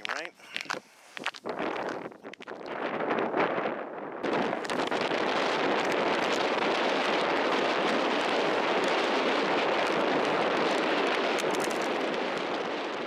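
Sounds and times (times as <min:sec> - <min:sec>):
strong wind blowing: 0:00.0 - 0:13.0.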